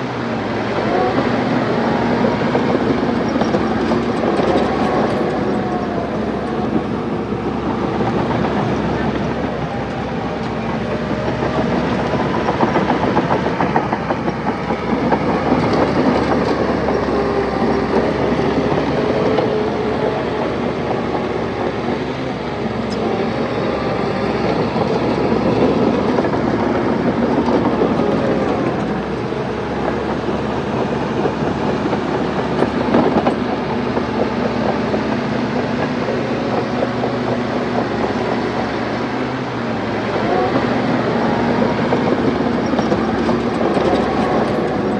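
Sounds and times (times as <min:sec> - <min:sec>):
diesel machinery engine: 0:00.0 - 0:44.9.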